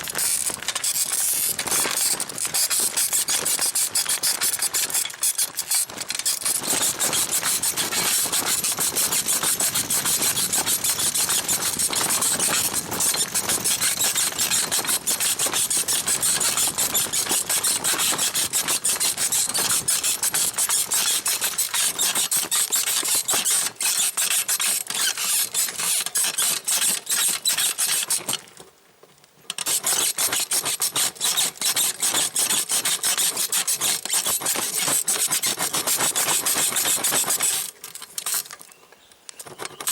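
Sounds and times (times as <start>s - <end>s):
saddle springs squeaking: 0.0s - 28.5s, 29.5s - 39.9s.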